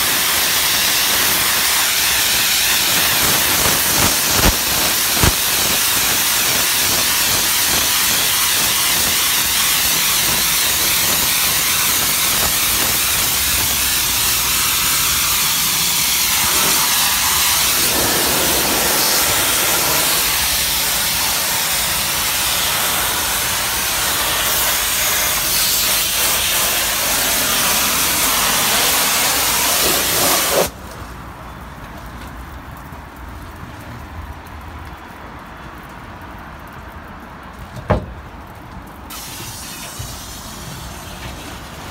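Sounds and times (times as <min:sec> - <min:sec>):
steam jet hissing: 0:00.0 - 0:30.7, 0:39.1 - 0:41.9.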